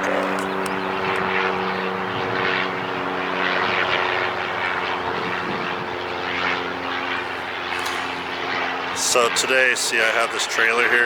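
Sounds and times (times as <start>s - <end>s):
aircraft engines humming: 0.0s - 11.0s.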